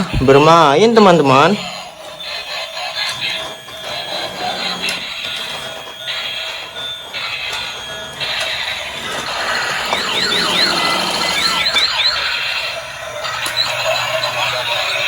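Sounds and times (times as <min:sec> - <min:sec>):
sliding siren-like tones: 0:00.0 - 0:15.0
toy trains running: 0:00.0 - 0:15.0.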